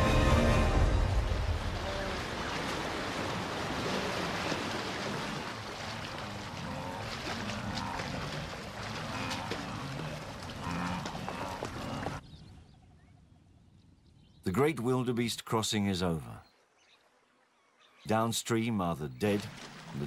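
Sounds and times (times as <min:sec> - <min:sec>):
water splashes: 0:00.0 - 0:12.2, 0:15.6 - 0:20.0.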